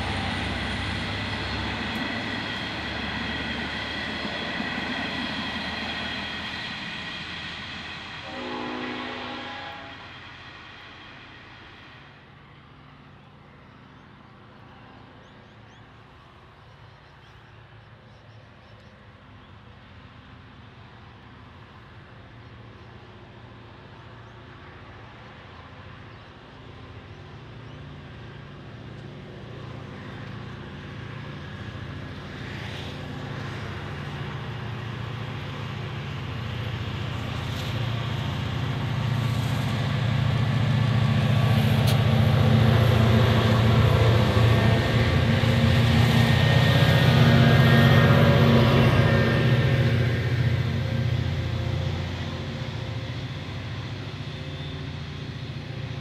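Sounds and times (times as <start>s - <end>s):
train engine drone: 0.0s - 56.0s.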